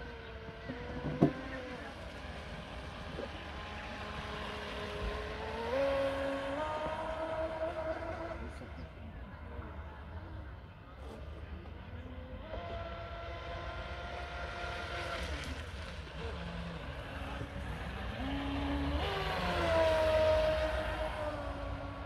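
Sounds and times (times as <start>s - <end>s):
toy speedboat motor whining: 0.0s - 10.1s, 11.0s - 22.0s.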